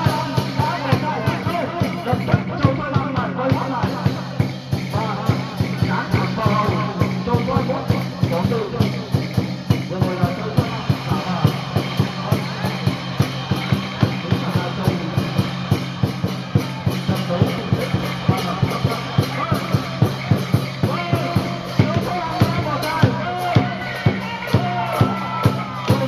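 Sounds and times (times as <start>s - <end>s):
quick percussion beat: 0.0s - 26.0s.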